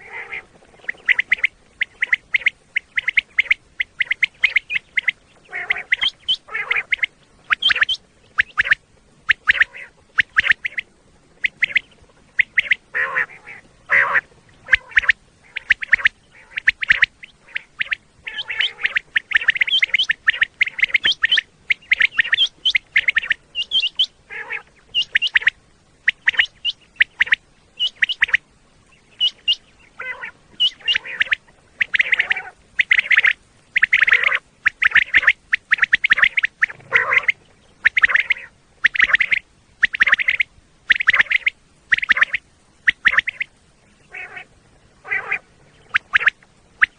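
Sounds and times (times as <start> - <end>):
quail calling: 0.0 - 46.9.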